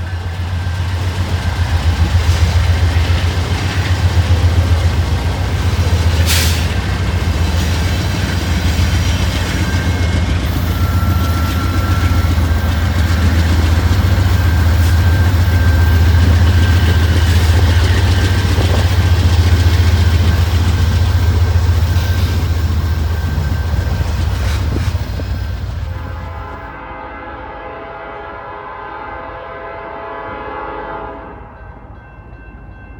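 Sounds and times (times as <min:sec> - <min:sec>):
locomotive engine drone: 0:00.0 - 0:26.8
rail cars rumbling: 0:00.0 - 0:32.9.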